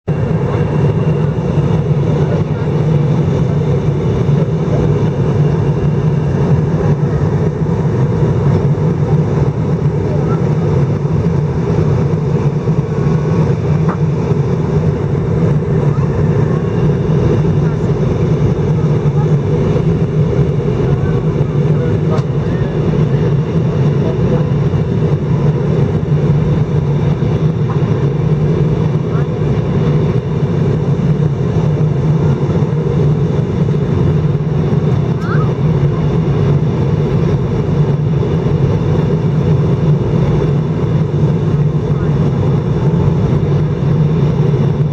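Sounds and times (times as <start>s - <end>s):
airliner cabin drone: 0.0s - 44.9s.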